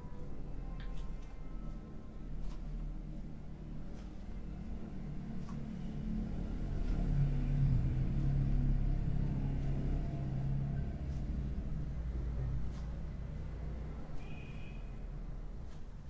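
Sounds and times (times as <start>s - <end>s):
low engine rumble: 0.0s - 14.2s.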